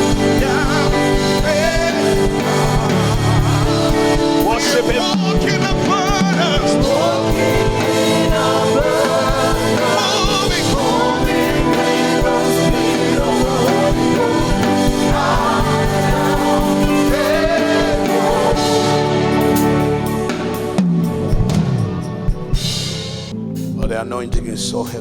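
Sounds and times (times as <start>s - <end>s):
voices singing gospel: 0.0s - 22.8s
steady low drum beat: 0.0s - 24.0s
sustained chords: 0.0s - 25.0s.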